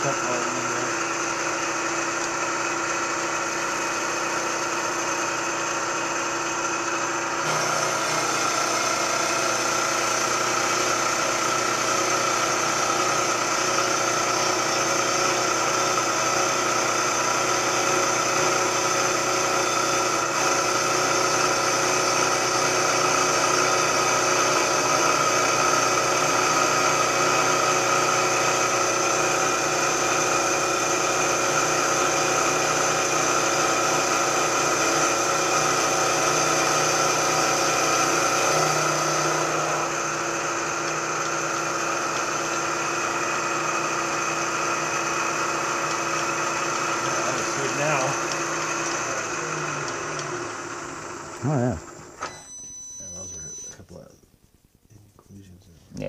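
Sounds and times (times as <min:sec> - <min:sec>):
milling machine whine: 0:00.0 - 0:54.1.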